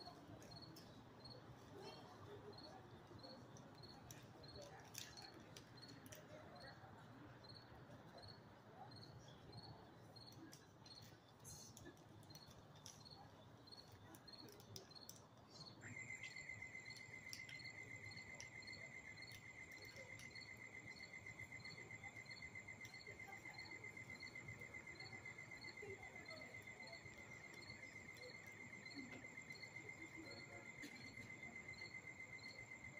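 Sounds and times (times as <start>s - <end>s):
crickets chirping: 0.0s - 32.9s.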